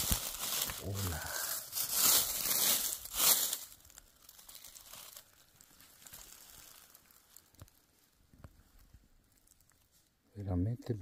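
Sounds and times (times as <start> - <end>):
crinkling of dry leaf litter: 0.0 - 10.2.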